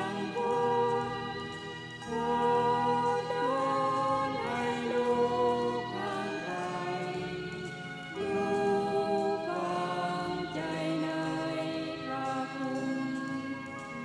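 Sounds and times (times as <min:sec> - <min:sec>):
slow singing in long held notes: 0:00.0 - 0:14.0.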